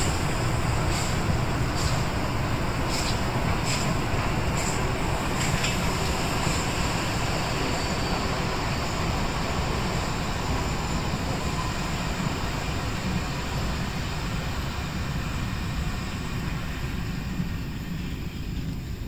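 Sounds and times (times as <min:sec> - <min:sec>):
steam train rumble: 0:00.0 - 0:19.0.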